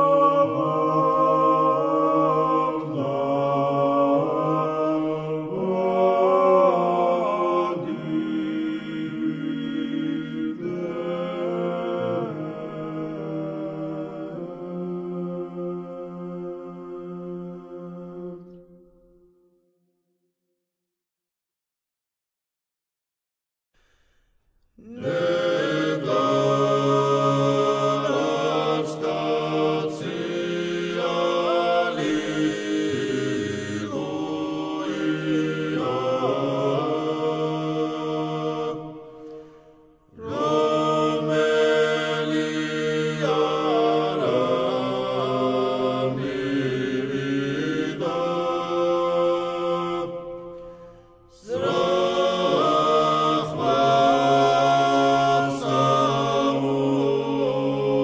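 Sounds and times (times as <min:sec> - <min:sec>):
choir chanting a cappella: 0:00.0 - 0:19.4, 0:24.8 - 0:58.0.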